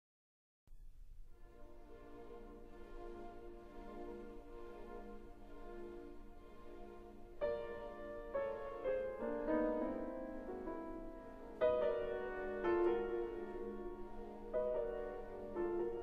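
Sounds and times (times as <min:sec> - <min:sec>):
soft piano music: 0:01.1 - 0:16.0.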